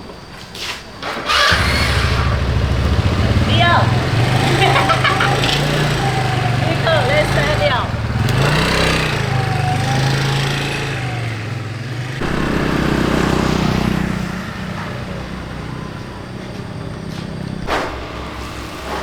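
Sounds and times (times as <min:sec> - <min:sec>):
scooter engine running: 0:01.2 - 0:19.0.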